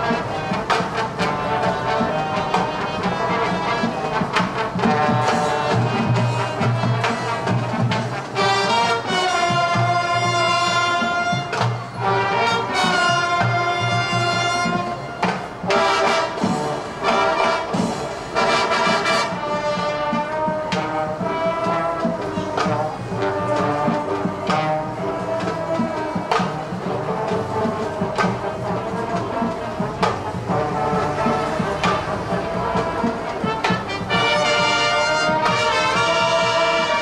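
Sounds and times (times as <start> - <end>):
brass holding long chords: 0.0 - 37.0
drum strikes: 0.0 - 37.0.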